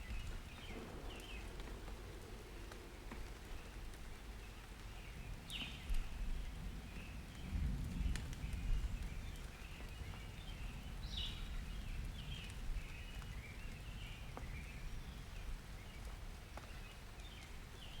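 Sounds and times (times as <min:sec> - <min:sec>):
low thunder rumble: 0:00.0 - 0:15.6
light rain: 0:00.0 - 0:18.0.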